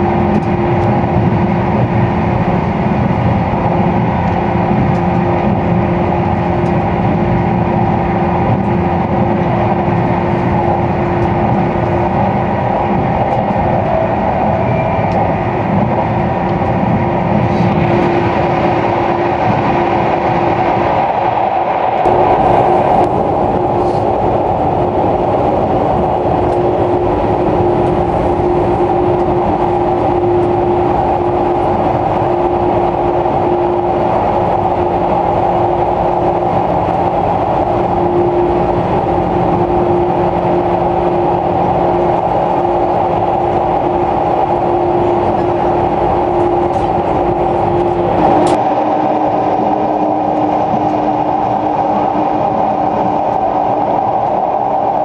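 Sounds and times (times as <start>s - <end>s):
constant train hum: 0.0s - 55.0s
train wheels rumbling on rail: 0.0s - 55.0s.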